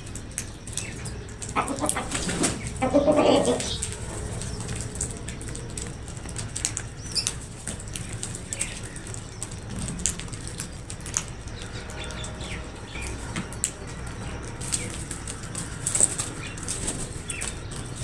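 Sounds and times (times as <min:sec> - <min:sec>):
crows flapping wings: 0:00.1 - 0:18.0
steady low rumble: 0:00.6 - 0:18.0.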